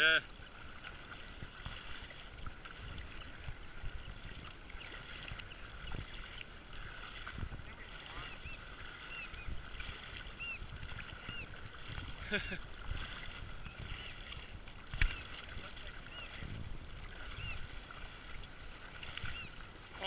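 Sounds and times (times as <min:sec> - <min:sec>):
water sloshing and lapping: 0:00.0 - 0:20.0
low wind rumble: 0:00.5 - 0:20.0.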